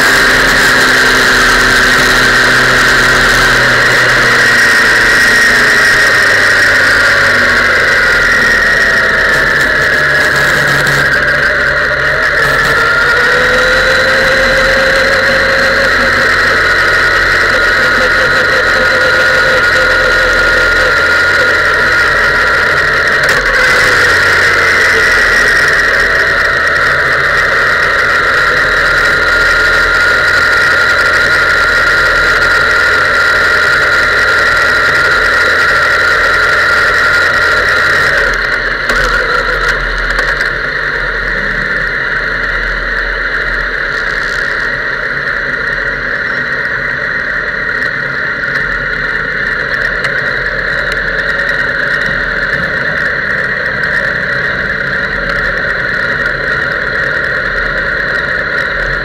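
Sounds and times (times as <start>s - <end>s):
high-pitched whine: 0.0s - 59.0s
motorcycle engine at low revs: 0.0s - 59.0s.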